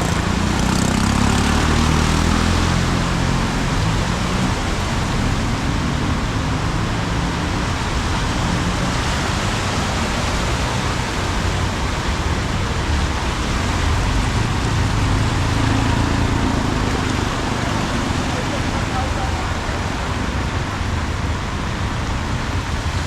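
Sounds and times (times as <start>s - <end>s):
heavy rain pouring: 0.0s - 23.0s
vehicle engine humming: 0.0s - 23.0s.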